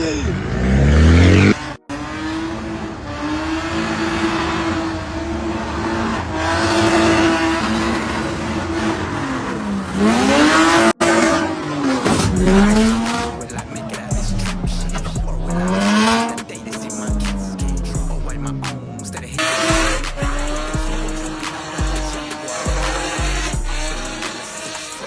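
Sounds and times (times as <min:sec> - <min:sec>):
sports car engine revving: 0:00.0 - 0:25.0.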